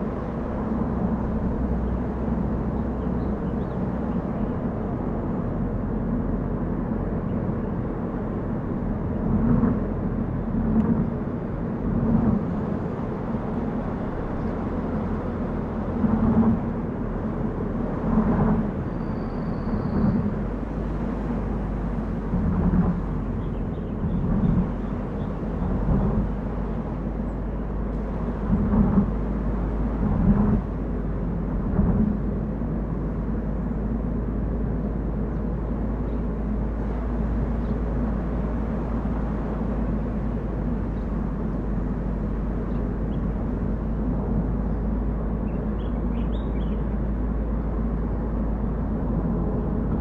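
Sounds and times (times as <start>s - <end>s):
car driving on a road: 0.0s - 50.0s.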